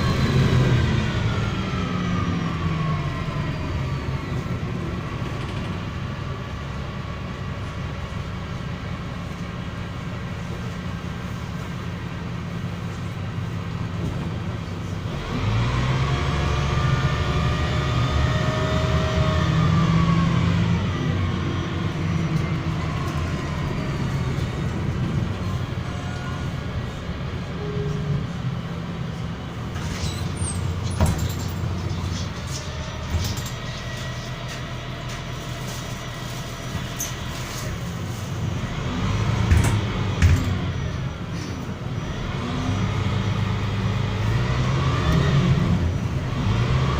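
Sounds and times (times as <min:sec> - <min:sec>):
bus engine and road drone: 0:00.0 - 0:46.9.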